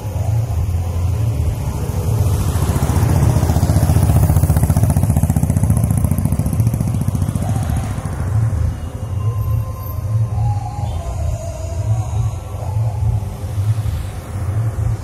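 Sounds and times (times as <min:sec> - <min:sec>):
engine running with low pulsing: 0:00.0 - 0:15.0.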